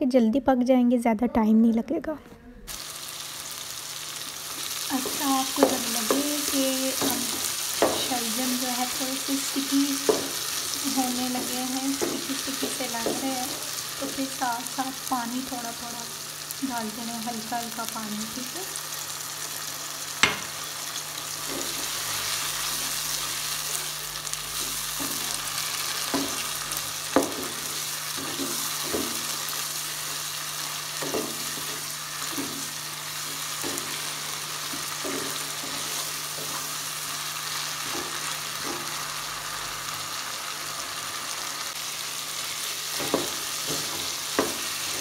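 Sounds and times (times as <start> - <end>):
vegetables sizzling in oil: 2.7 - 45.0.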